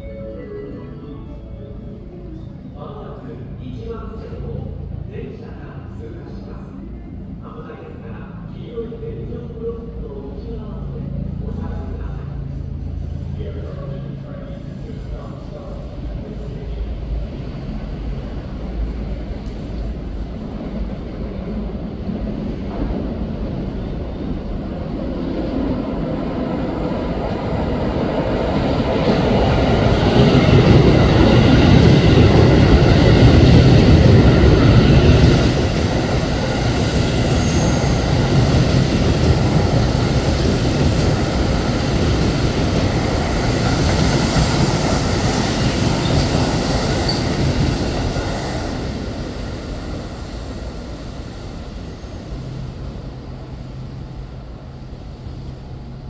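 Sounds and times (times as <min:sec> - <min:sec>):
electric train passing: 0:00.0 - 0:56.0.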